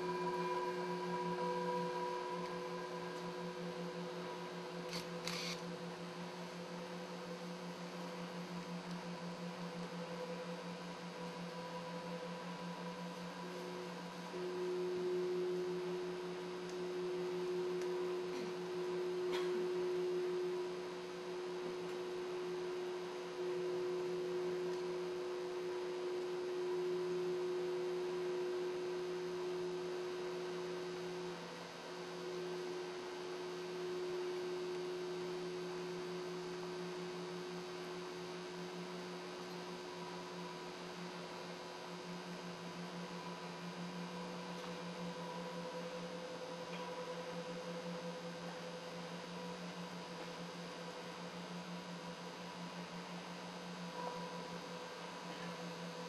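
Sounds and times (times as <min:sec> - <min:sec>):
droning hum of held tones: 0:00.0 - 0:56.0.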